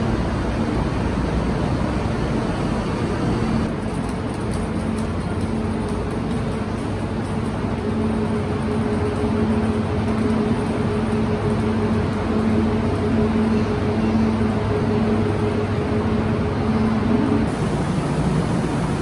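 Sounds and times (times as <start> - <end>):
station platform noise: 0.0 - 19.0
train equipment humming: 0.0 - 19.0.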